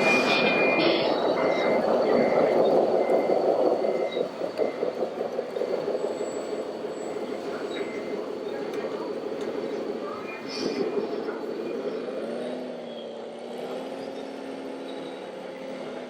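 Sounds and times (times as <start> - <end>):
reversing beeper: 0.0 - 13.2
toy truck engine noise: 0.0 - 16.0.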